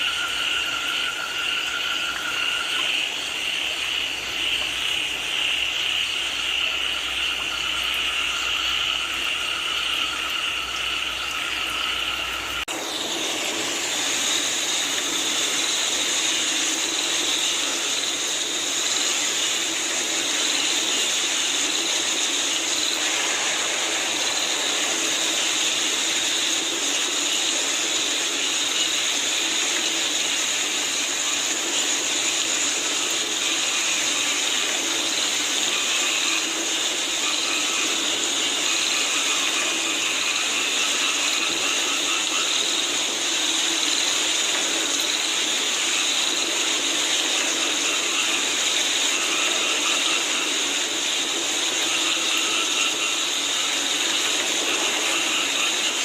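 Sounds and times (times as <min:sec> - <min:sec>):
frogs calling: 0:00.0 - 0:56.0
rain falling: 0:00.0 - 0:56.0.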